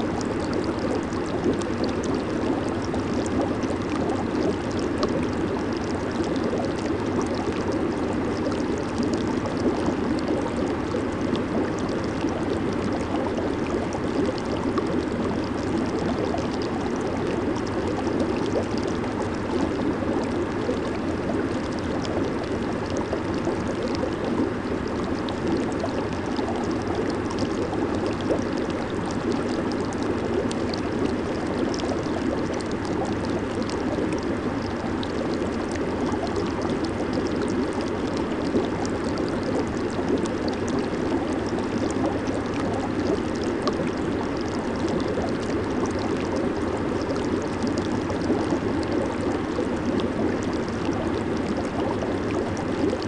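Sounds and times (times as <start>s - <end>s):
jacuzzi jets bubbling water: 0.0s - 53.0s.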